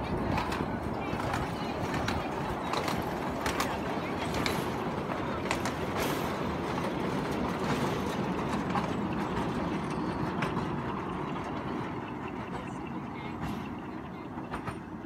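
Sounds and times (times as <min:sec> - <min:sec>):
rattle of train carriages: 0:00.0 - 0:15.0
toy train rumbling on track: 0:00.0 - 0:15.0.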